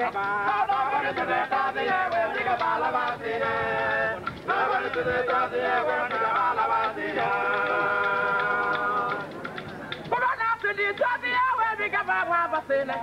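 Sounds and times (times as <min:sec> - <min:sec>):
men singing a chant: 0:00.0 - 0:09.3, 0:10.8 - 0:13.0.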